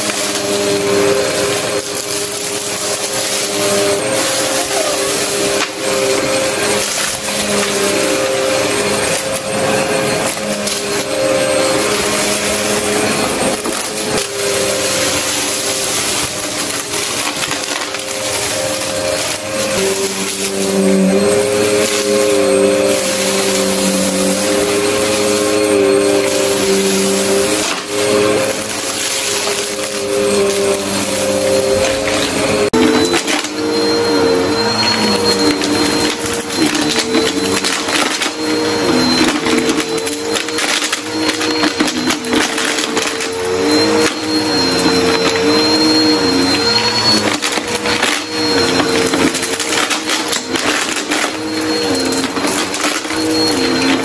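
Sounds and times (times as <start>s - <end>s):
upright vacuum cleaner running: 0.0s - 54.0s.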